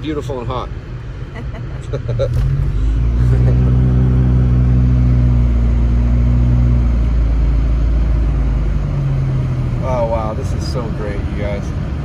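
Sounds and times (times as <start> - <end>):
car engine drone in cabin: 0.0 - 12.0
road noise: 0.0 - 12.0.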